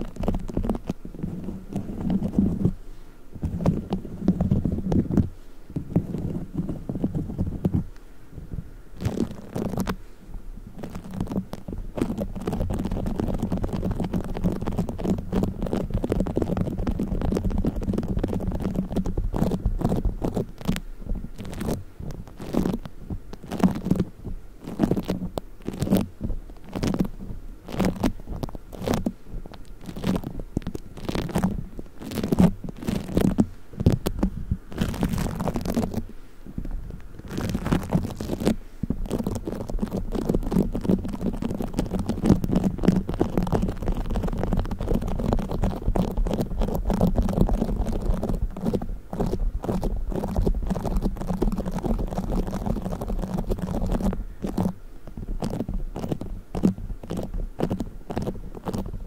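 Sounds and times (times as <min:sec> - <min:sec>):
foam beads crackling and squelching: 0:00.0 - 0:02.8, 0:09.0 - 0:10.0, 0:10.7 - 0:59.0.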